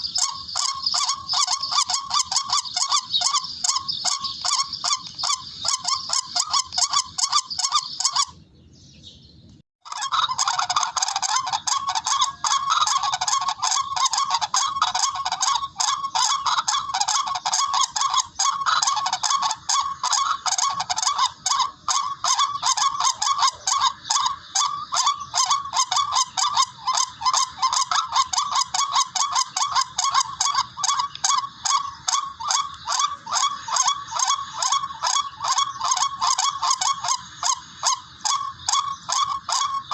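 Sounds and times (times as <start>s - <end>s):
recorded bird calls: 0.0s - 39.9s.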